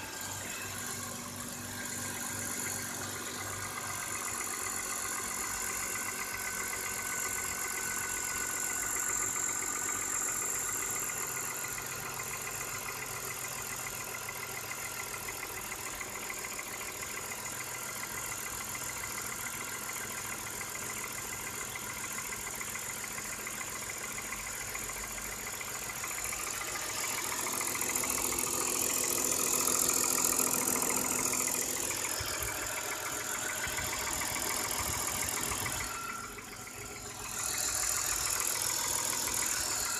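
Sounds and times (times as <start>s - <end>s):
car engine idling: 0.0s - 39.9s
fast engine knocking: 0.0s - 39.9s.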